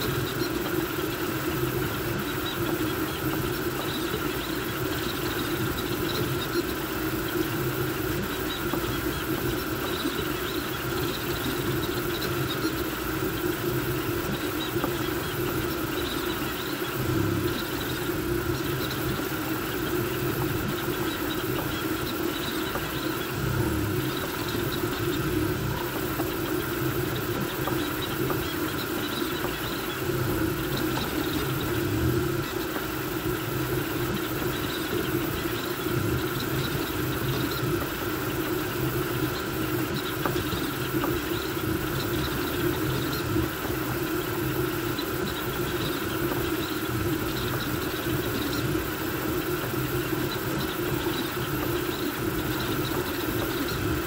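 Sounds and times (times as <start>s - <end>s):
fan whirring: 0.0s - 54.0s
stepper motors buzzing: 0.0s - 54.0s.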